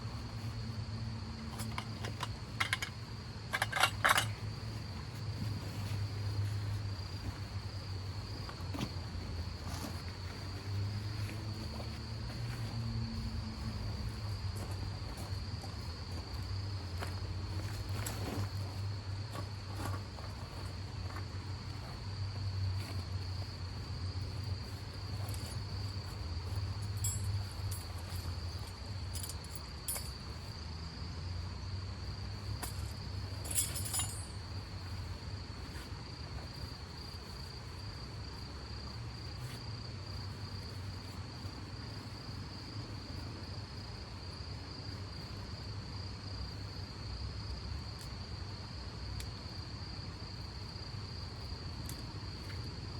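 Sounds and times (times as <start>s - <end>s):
crickets chirping: 0.0s - 52.9s
low steady rumble: 0.0s - 52.9s.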